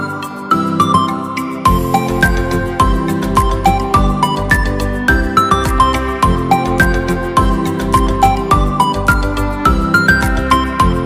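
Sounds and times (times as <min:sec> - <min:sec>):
high melody over steady beat: 0:00.0 - 0:11.0.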